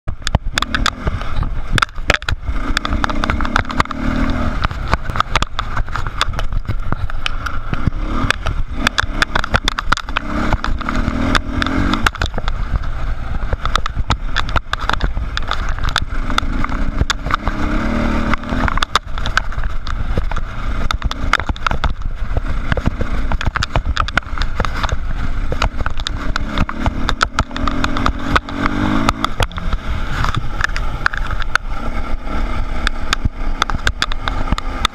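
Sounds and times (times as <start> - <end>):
dirt bike engine: 0.0 - 34.9
bike knocking over rocks: 0.1 - 32.0, 32.7 - 34.9.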